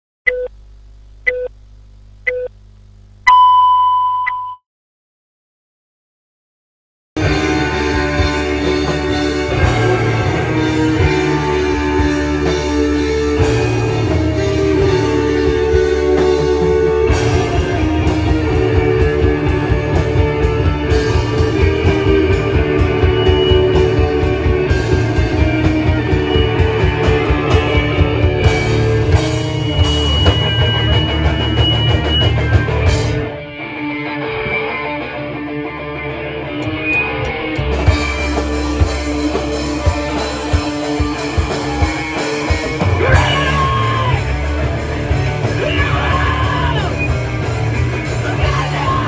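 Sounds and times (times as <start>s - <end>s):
electric guitars: 7.2s - 49.0s.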